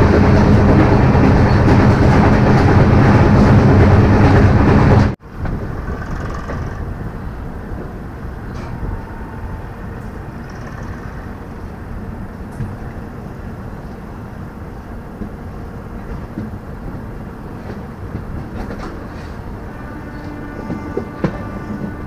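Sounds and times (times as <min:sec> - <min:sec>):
train wheels rumbling on rails: 0:00.0 - 0:22.0
wind: 0:00.0 - 0:22.0.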